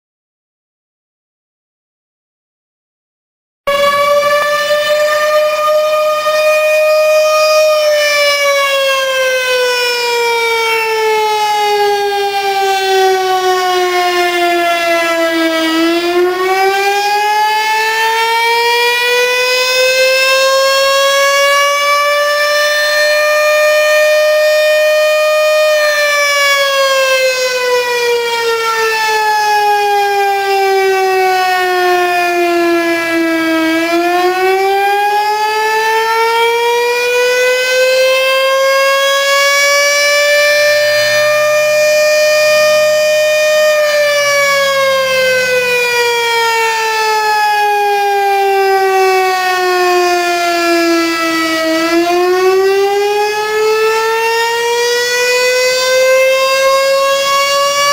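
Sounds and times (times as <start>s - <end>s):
warning siren wailing: 3.7s - 57.9s.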